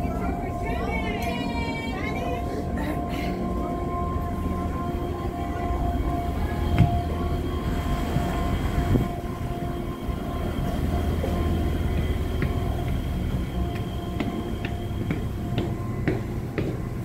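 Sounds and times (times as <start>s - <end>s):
boat engines droning: 0.0s - 17.0s
thin steady whine: 0.0s - 17.0s.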